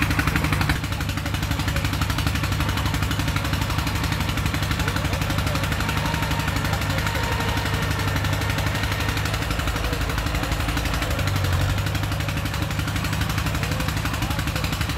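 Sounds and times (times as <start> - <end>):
bulldozer diesel engine chugging: 0.0 - 14.9.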